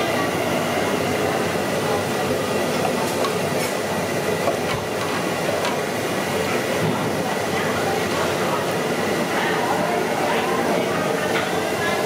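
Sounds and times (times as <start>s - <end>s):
gas burner flame roaring: 0.0s - 12.0s.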